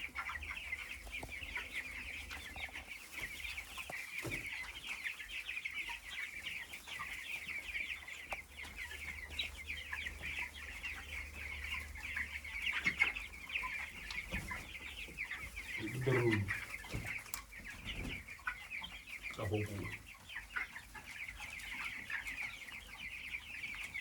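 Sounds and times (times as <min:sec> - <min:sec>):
chickens cheeping: 0:00.0 - 0:24.0.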